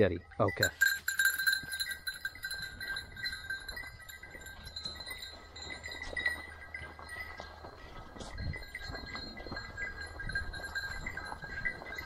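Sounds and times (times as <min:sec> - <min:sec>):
dog collar bell ringing: 0:00.0 - 0:12.0.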